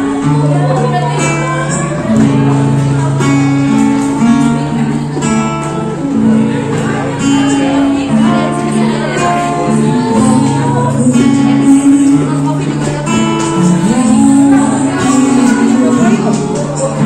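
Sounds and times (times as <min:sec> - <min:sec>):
woman singing into a microphone: 0:00.0 - 0:03.6, 0:06.2 - 0:17.0
strummed acoustic guitar: 0:00.0 - 0:17.0.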